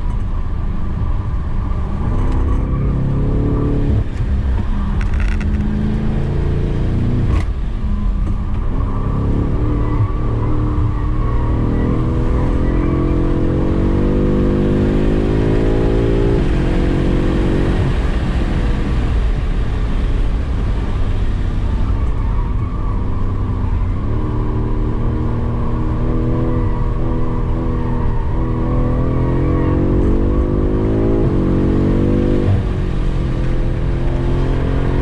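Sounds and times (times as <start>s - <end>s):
car engine at full throttle: 0.0s - 35.0s
tyre and road noise: 0.0s - 35.0s.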